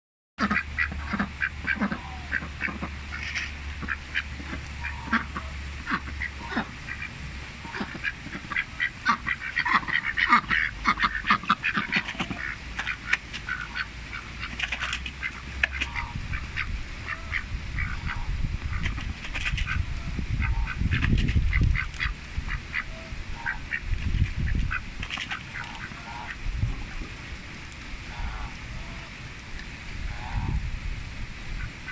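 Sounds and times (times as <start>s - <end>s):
ducks quacking: 0.4s - 26.5s, 28.0s - 29.1s, 30.0s - 30.6s, 31.5s - 31.9s.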